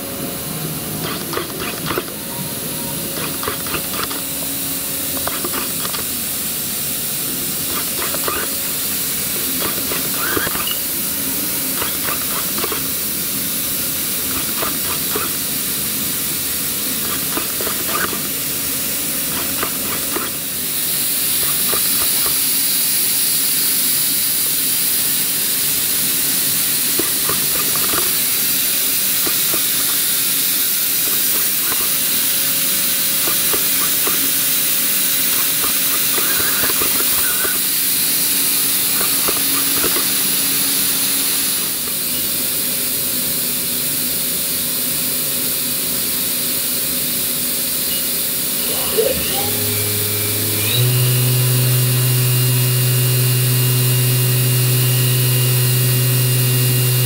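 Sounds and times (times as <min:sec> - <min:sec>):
steady machine hiss: 0:00.0 - 0:57.0.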